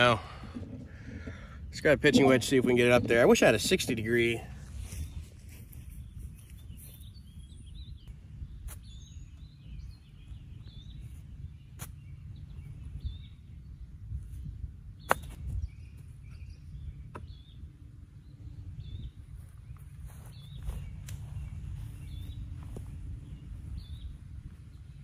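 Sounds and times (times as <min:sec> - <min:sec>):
birds chirping: 0:00.0 - 0:25.0
low steady rumble: 0:00.0 - 0:25.0.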